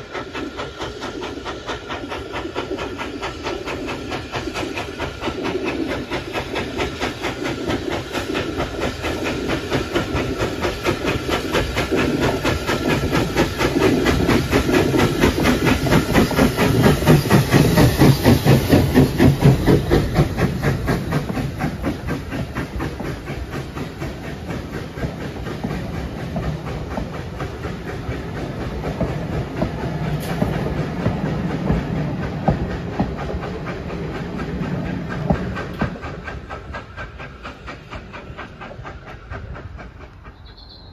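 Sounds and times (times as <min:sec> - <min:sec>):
carriage wheels on rails: 0:00.0 - 0:40.9
steam locomotive exhaust beats: 0:00.0 - 0:40.9.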